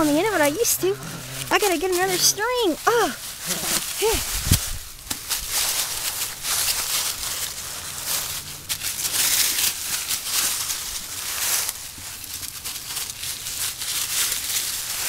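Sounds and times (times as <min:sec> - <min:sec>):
dry leaves rustling and crunching: 0:00.0 - 0:15.0.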